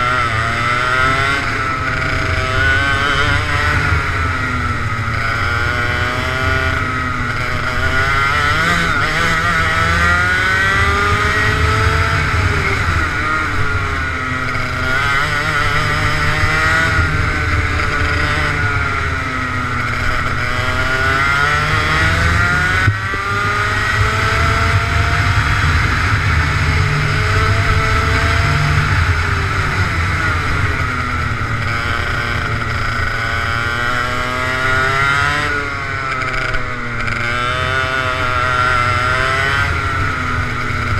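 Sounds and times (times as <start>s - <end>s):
racing kart engine: 0.0s - 40.9s.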